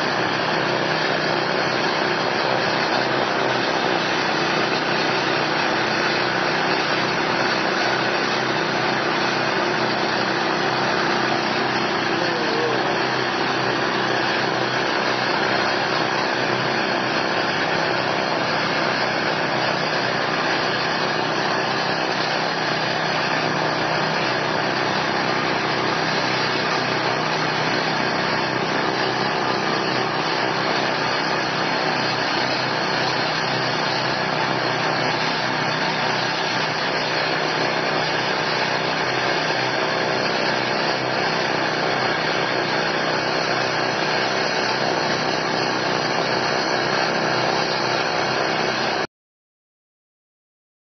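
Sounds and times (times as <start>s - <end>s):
auger churning snow: 0.0s - 49.1s
snow blower engine running: 0.0s - 49.1s.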